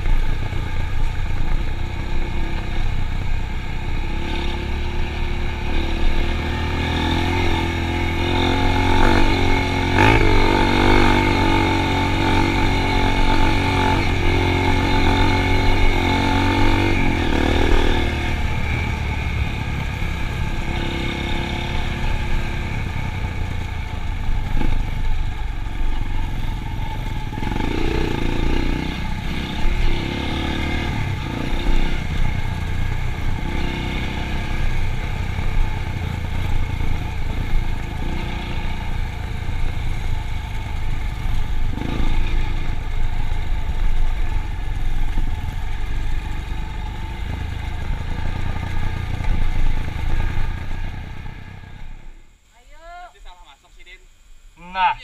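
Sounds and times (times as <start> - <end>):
motorcycle engine revving: 0.0 - 52.6.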